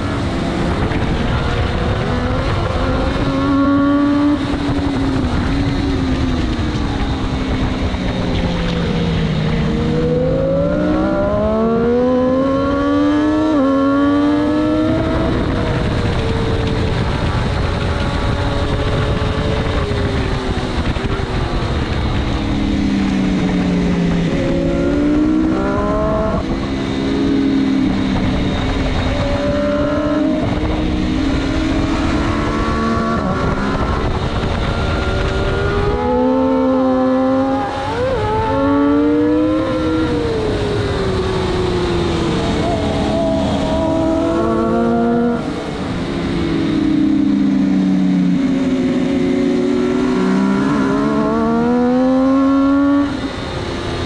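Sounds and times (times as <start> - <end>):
motorcycle engine revving through gears: 0.0 - 54.0
wind rush: 0.0 - 54.0.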